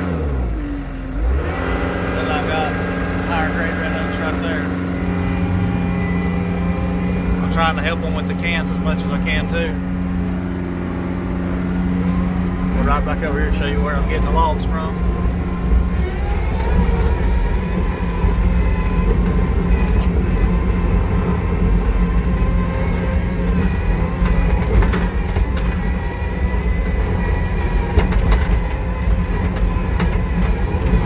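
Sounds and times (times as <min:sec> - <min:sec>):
diesel engine running under load: 0:00.0 - 0:31.0
hydraulic whine: 0:00.0 - 0:31.0
tracks rattling: 0:01.3 - 0:31.0.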